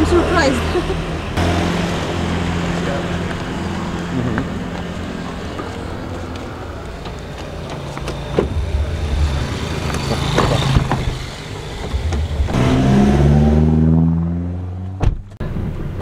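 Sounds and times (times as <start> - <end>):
car engine humming and accelerating: 0.0 - 16.0.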